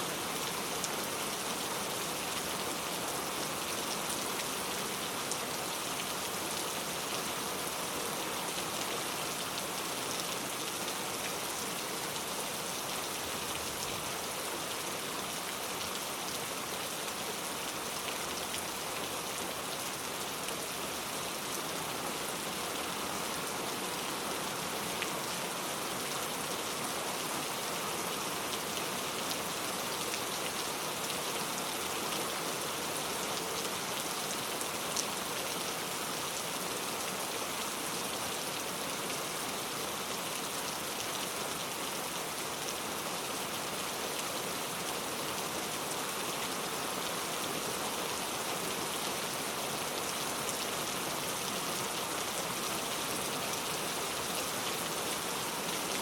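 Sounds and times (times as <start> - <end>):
heavy rain on a road: 0.0 - 56.0.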